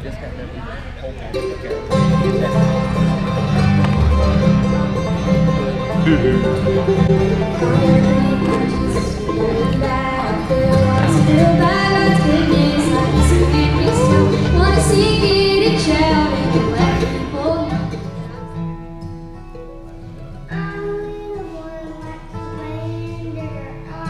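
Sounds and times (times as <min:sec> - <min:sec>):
country song with guitar and vocals: 0:01.8 - 0:24.0.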